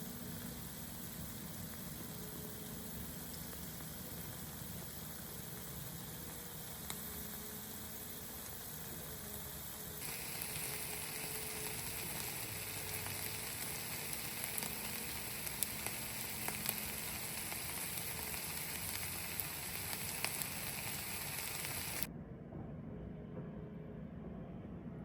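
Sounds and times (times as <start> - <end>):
food sizzling in a pan: 0.0 - 22.1.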